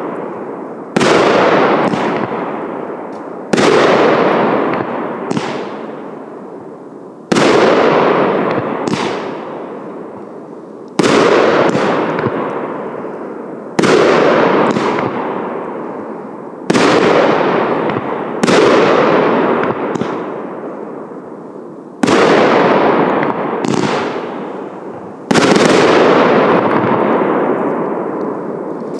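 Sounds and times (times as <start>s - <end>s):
fireworks bursts: 0.0s - 28.9s.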